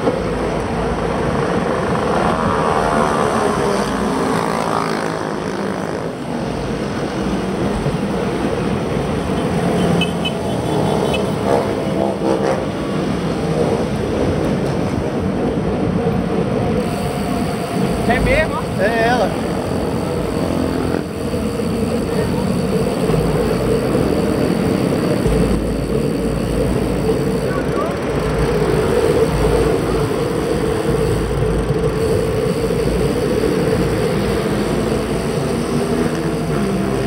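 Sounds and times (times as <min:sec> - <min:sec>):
motor vehicles passing: 0:00.0 - 0:37.0.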